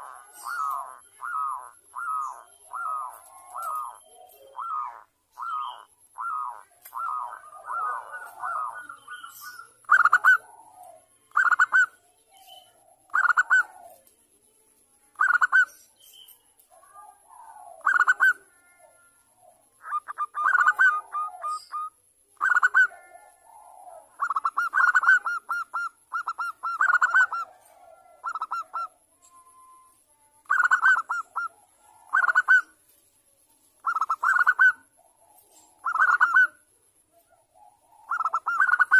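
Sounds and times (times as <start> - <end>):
doves cooing: 0.0 - 14.2, 16.6 - 32.8, 33.8 - 38.9.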